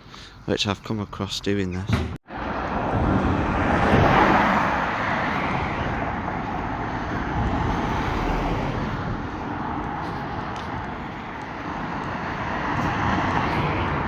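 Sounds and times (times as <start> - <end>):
traffic hum: 0.0 - 14.0
car passing close: 2.3 - 14.0.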